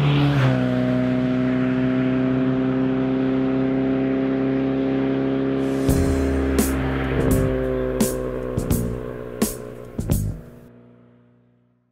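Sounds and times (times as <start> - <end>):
engine revving high: 0.0 - 10.8.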